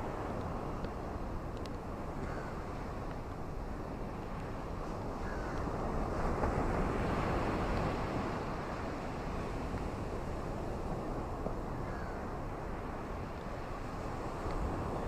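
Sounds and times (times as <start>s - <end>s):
ocean waves on a beach: 0.0s - 15.0s.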